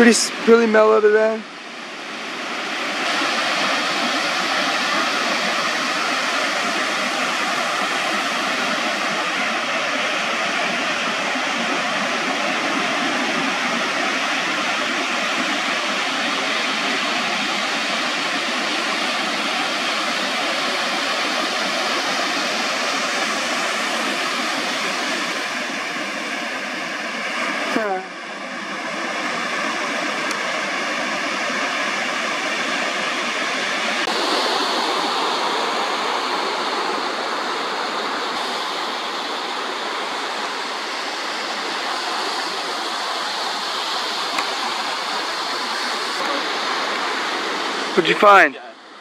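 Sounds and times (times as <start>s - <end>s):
ocean surf breaking: 0.0s - 49.0s.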